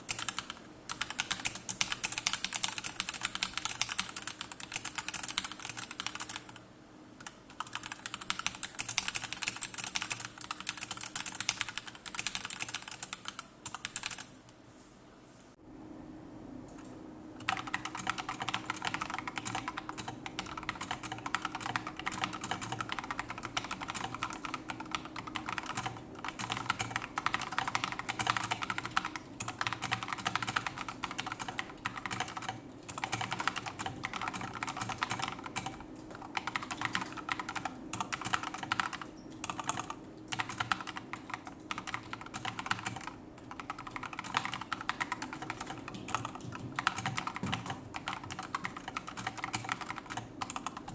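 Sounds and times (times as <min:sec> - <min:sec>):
fast typing on mechanical keyboard: 0:00.0 - 0:06.6, 0:07.2 - 0:14.4, 0:17.4 - 0:50.9.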